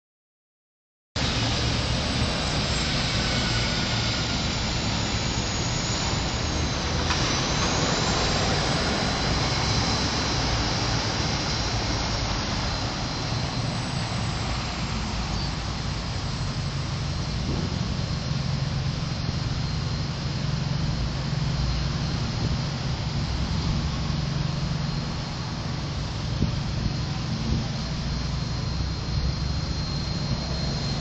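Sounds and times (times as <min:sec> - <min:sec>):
road traffic: 0:01.2 - 0:31.0
wind buffeting microphone: 0:01.3 - 0:31.0.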